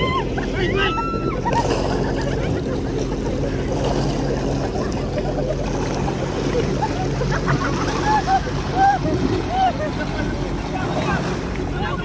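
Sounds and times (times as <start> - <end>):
motorboat engine running: 0.0 - 12.0
water wash: 0.0 - 12.0.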